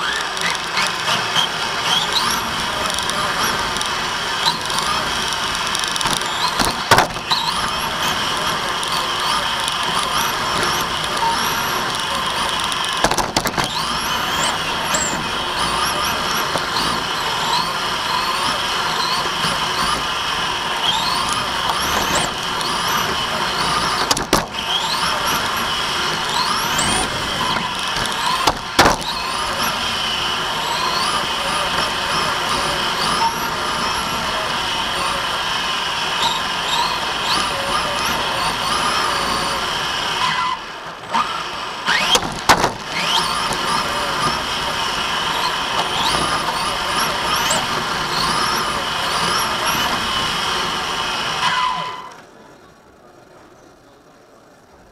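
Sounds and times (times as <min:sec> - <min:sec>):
electric motor whine: 0:00.0 - 0:52.2.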